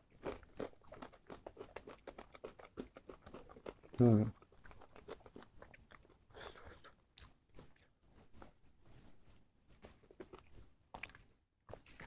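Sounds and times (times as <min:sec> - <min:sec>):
person chewing with wet smacks: 0:00.0 - 0:08.0, 0:09.8 - 0:12.0.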